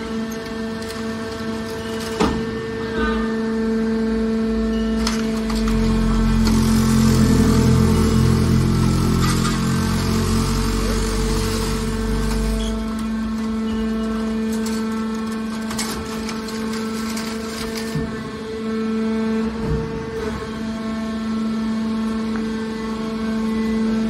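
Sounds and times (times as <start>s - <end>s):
hydraulic pump humming: 0.0s - 24.0s.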